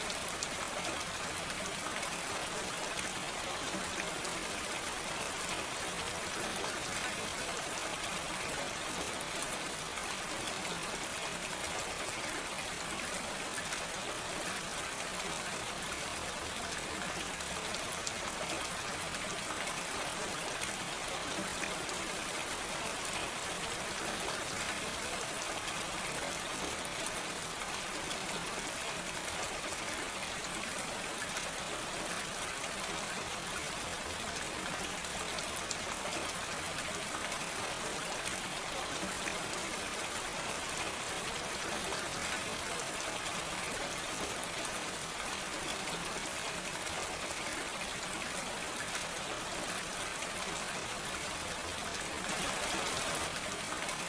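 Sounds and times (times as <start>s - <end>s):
gentle rain: 0.0s - 54.0s.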